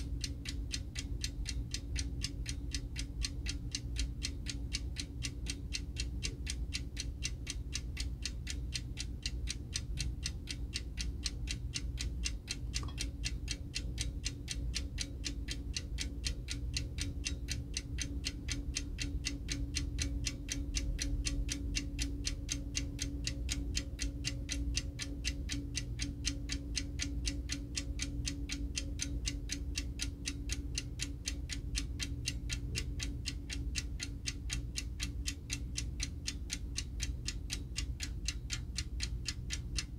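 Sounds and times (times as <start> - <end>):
alarm clock ticking: 0.0 - 39.9.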